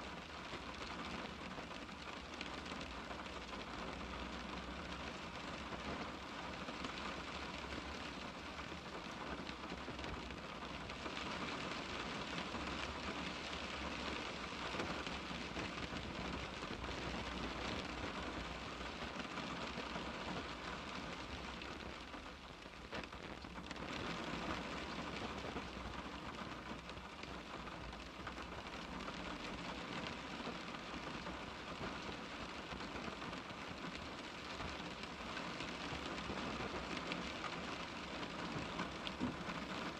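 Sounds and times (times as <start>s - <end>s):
rain pattering on car glass: 0.0s - 39.9s.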